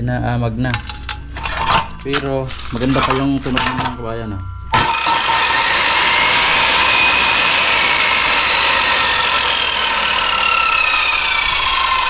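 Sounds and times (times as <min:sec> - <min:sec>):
circular saw whining: 0:01.4 - 0:12.0.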